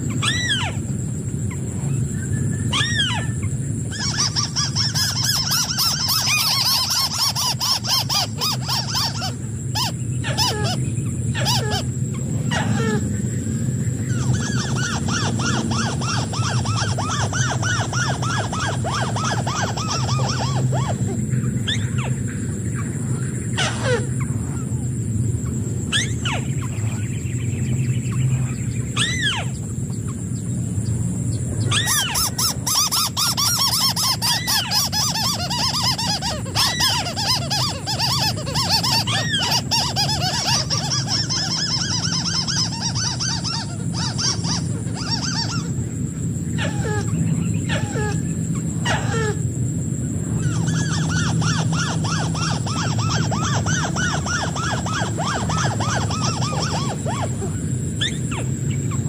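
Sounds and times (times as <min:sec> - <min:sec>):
crake calls: 0:00.0 - 0:59.0
high-pitched whine: 0:00.0 - 0:59.0.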